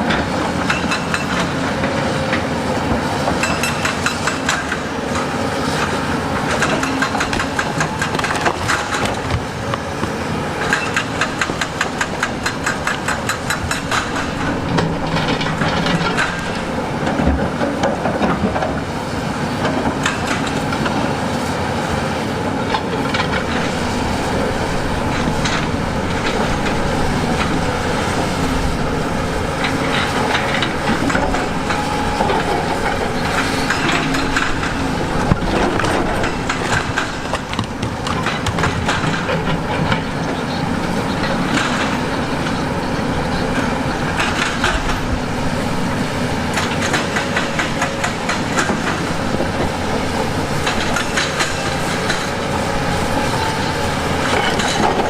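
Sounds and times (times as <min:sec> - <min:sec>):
metal track clatter: 0:00.0 - 0:21.2, 0:22.6 - 0:55.0
diesel engine running: 0:00.0 - 0:55.0.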